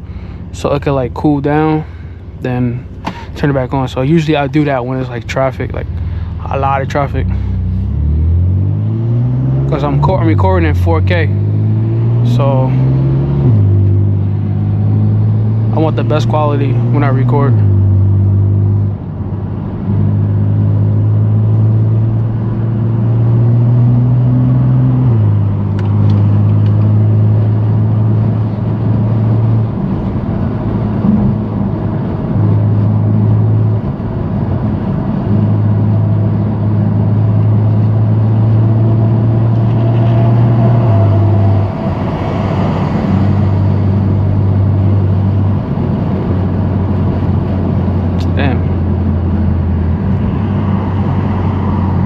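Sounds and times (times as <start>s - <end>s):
car engine droning: 0.0s - 52.0s.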